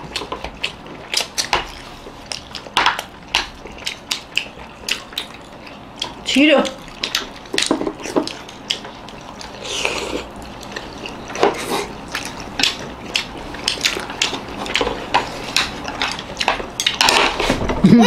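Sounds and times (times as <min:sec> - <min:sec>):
eating and slurping: 0:00.0 - 0:18.0.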